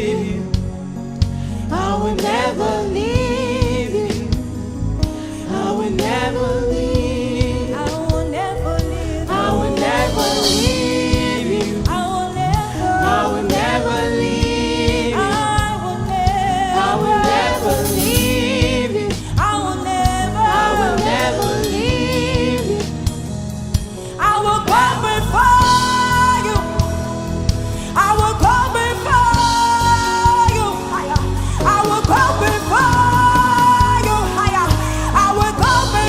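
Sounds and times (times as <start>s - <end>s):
gospel singing voices: 0.0s - 23.4s, 24.1s - 36.0s
band with bass and drums: 6.0s - 36.0s.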